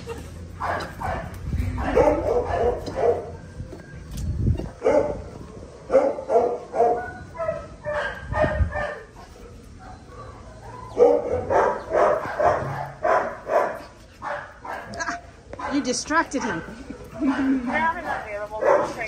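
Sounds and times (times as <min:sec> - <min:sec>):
puppies barking and yipping: 0:00.0 - 0:19.0.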